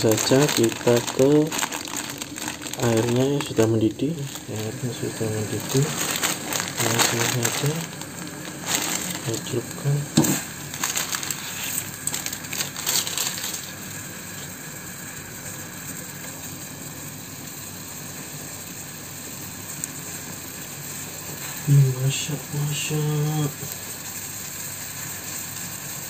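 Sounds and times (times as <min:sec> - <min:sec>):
faint background hum: 0:00.0 - 0:26.0.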